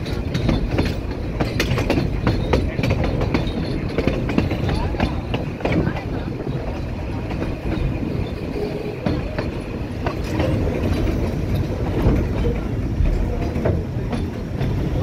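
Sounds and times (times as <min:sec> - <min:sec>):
train carriage rumbling and rattling: 0:00.0 - 0:15.0
wheel clicks over rails: 0:00.0 - 0:15.0.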